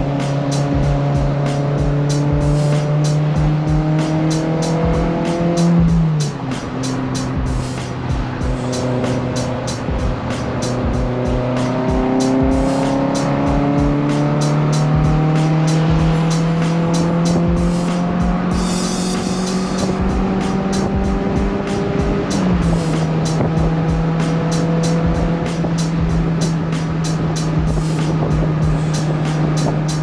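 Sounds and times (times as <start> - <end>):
car engine accelerating: 0.0 - 30.0
music with steady beat: 0.0 - 30.0.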